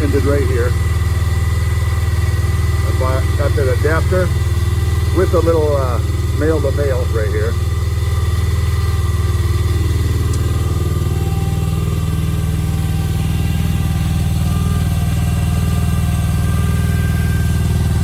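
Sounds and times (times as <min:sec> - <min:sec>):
mini excavator engine running: 0:00.0 - 0:18.0.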